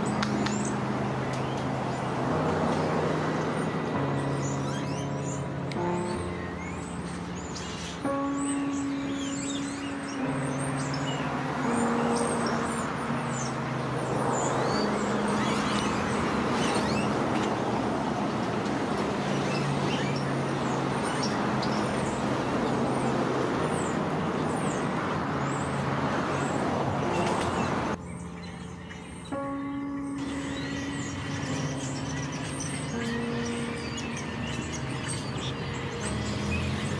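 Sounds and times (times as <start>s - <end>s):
road traffic rushing: 0.0s - 36.9s
slow music with low notes: 0.0s - 36.9s
bird chirps: 3.5s - 17.9s, 19.2s - 36.9s.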